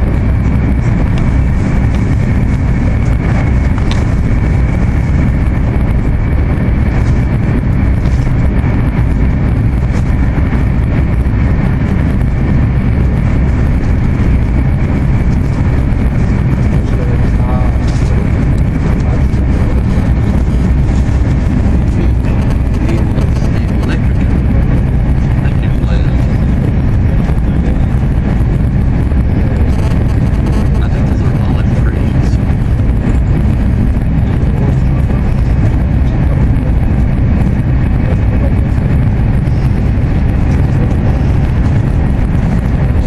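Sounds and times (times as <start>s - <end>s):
faint high whine: 0.0s - 43.0s
train cabin rumble: 0.0s - 43.0s.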